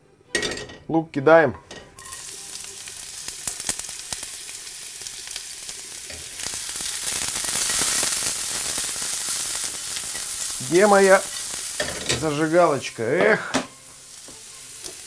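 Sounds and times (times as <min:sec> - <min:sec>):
onions sizzling in oil: 0:01.9 - 0:15.0.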